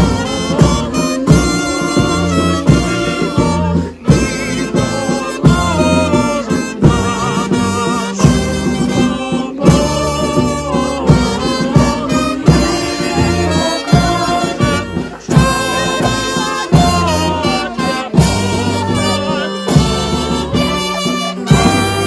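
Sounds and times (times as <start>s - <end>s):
brass instruments playing: 0.0s - 22.0s
steady drum beat: 0.0s - 22.0s.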